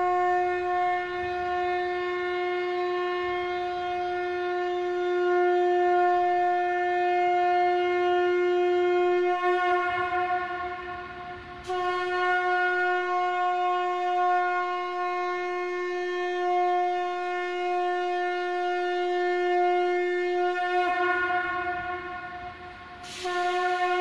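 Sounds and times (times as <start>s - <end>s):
conch shell blown: 0.0s - 24.0s.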